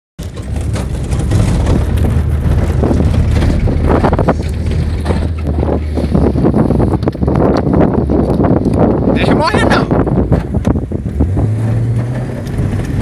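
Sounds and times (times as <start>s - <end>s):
car engine and road drone: 0.2s - 13.0s
car knocking and rattling over bumps: 0.2s - 13.0s.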